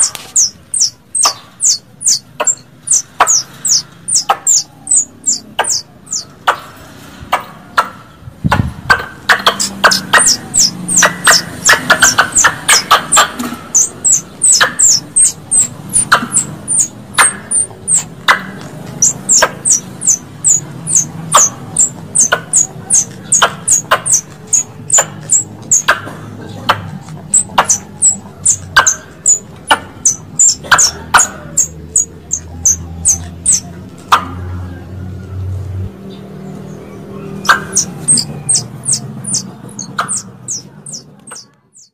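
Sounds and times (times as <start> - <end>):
recorded squirrel calls: 0.0 - 35.2, 36.7 - 41.9.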